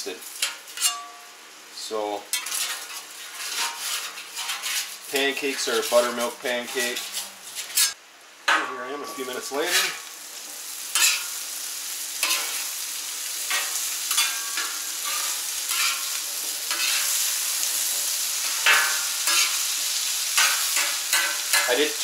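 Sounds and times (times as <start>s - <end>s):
potatoes sizzling in oil: 0.0s - 22.0s
metal spatula scraping: 0.2s - 1.1s, 2.3s - 10.1s, 10.9s - 11.4s, 12.2s - 12.8s, 13.4s - 21.9s.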